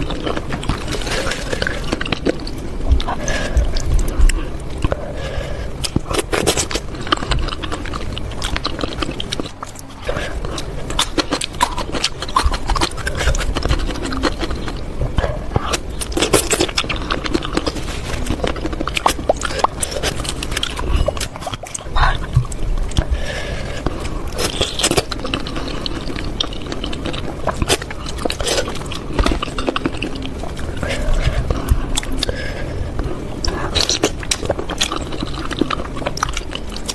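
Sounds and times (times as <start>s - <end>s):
slurping and chewing noodles: 0.0s - 36.9s.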